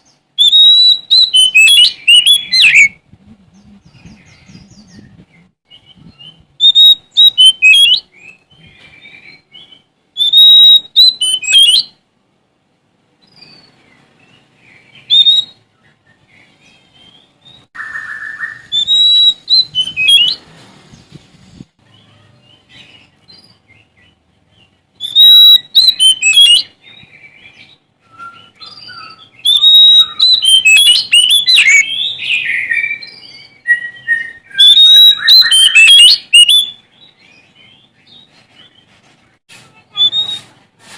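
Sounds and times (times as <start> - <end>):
bird singing whistles and chirps: 0.0 - 12.0, 13.2 - 20.4, 21.9 - 38.8, 39.9 - 40.5.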